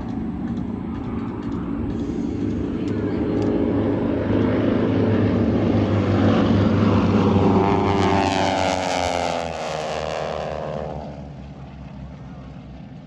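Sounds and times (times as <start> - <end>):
propeller planes flying past: 0.0 - 13.0.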